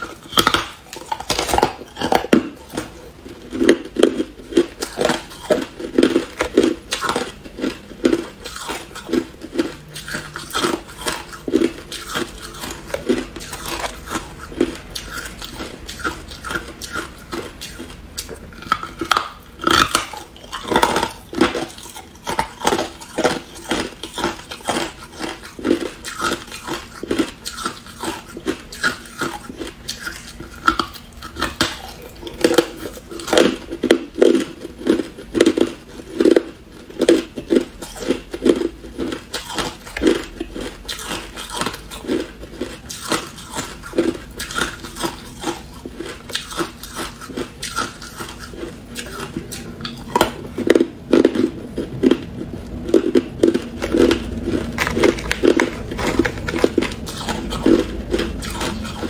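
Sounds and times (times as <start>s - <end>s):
chewing crushed ice crunches: 0.0s - 59.0s.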